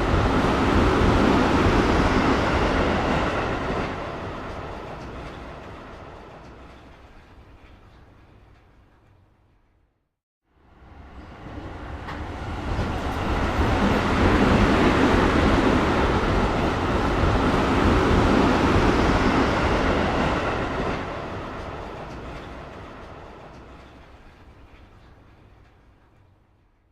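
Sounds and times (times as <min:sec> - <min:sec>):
metro train passing: 0:00.0 - 0:09.6, 0:10.5 - 0:26.8.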